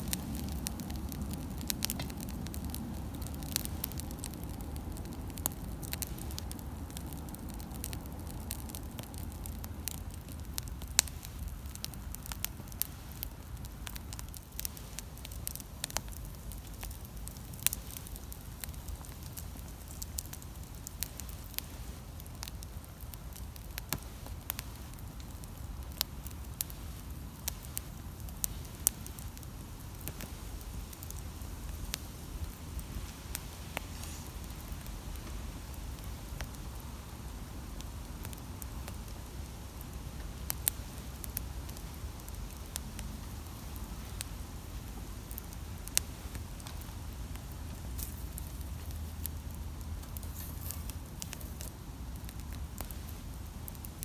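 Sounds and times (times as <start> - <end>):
campfire pops and crackles: 0.0 - 54.0
low fire rumble: 0.0 - 54.0.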